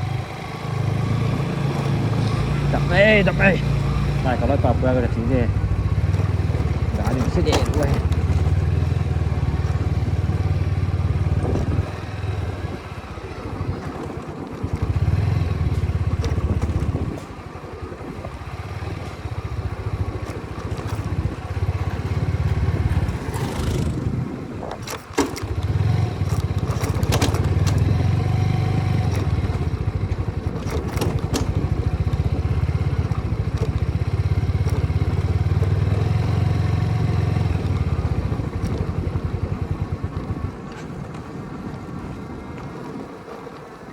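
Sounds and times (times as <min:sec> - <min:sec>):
wind rumble on microphone: 0:00.0 - 0:36.1, 0:36.8 - 0:43.9
motorcycle engine running: 0:00.0 - 0:43.9.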